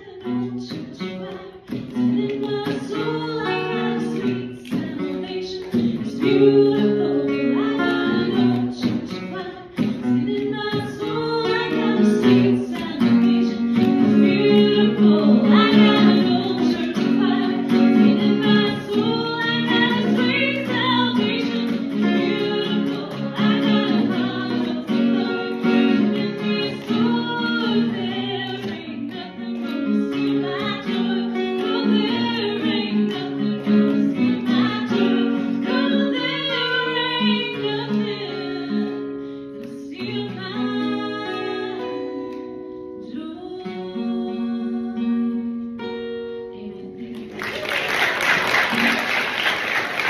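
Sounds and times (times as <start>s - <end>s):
woman singing worship song: 0.0s - 42.4s
strummed acoustic guitar: 0.0s - 47.4s.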